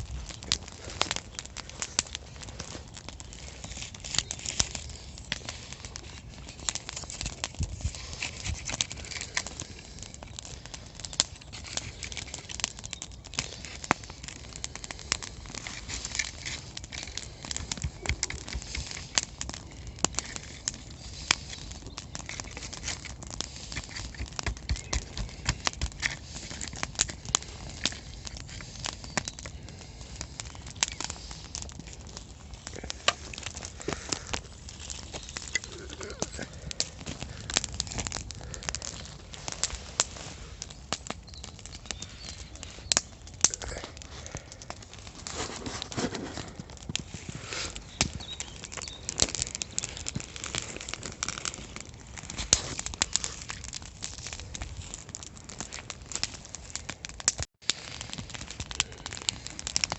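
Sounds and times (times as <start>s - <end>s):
dry twigs crackling and snapping: 0.0s - 59.9s.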